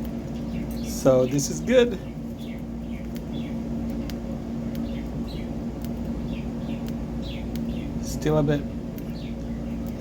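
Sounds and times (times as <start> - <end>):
soft bird chirps: 0.0 - 10.0
steady low hum: 0.0 - 10.0.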